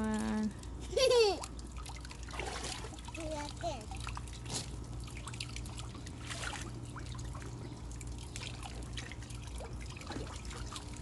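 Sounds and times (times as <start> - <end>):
steady low hum: 0.0 - 11.0
water trickling and dripping: 0.0 - 11.0
small splashes: 0.6 - 11.0.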